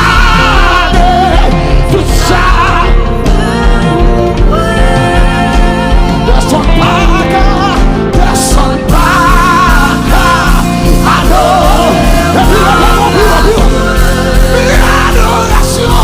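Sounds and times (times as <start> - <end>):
live band playing loudly: 0.0 - 16.0
person singing: 0.0 - 16.0
steady low beat: 0.0 - 16.0.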